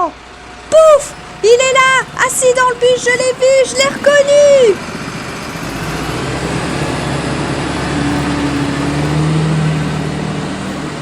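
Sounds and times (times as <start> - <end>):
bus engine droning: 0.0 - 11.0
street noise: 0.0 - 11.0.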